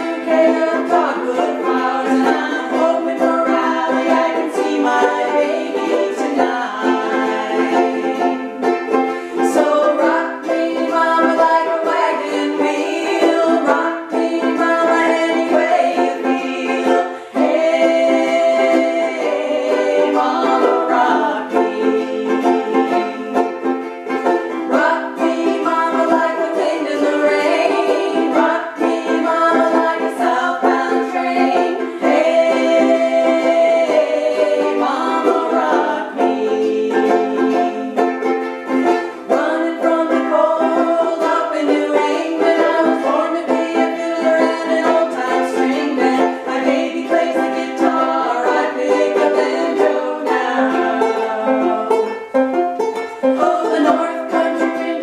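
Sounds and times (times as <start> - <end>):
ukuleles strumming: 0.0 - 55.0
women singing: 0.0 - 55.0.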